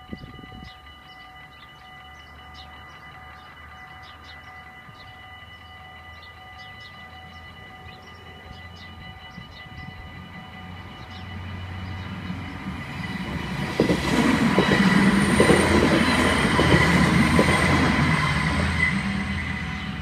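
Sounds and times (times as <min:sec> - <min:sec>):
diesel train rumble: 0:00.0 - 0:20.0
level crossing bells ringing: 0:00.0 - 0:20.0.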